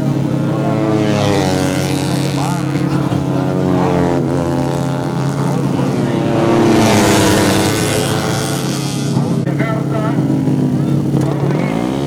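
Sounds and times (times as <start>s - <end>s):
motorcycle engines at high revs: 0.0s - 12.0s
motorcycle passing close: 0.0s - 12.0s.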